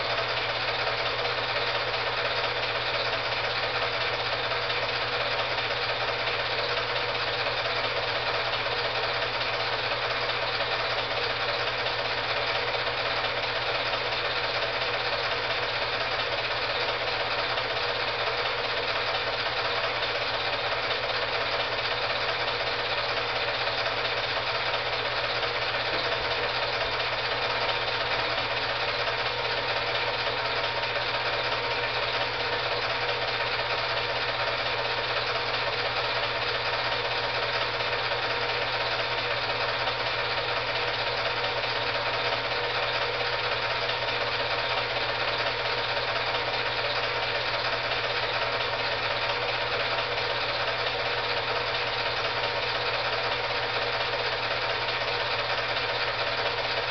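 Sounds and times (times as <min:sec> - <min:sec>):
film projector running: 0:00.0 - 0:56.9.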